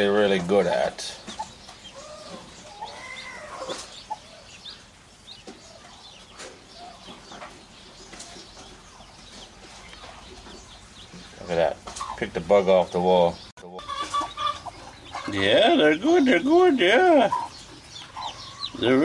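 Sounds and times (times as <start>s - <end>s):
hen and chicks calling softly: 0.0s - 19.0s.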